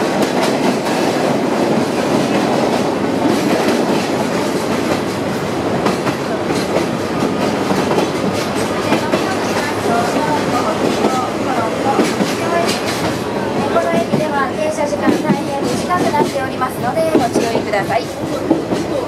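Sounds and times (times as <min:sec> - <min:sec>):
train wheels rattling on rail: 0:00.0 - 0:19.0.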